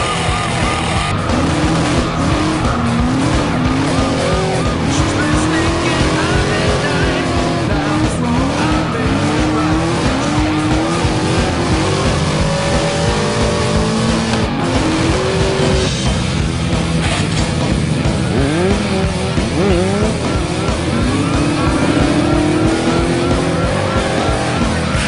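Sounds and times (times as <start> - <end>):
background music: 0.0 - 25.0
motorcycle engines revving: 0.0 - 25.0.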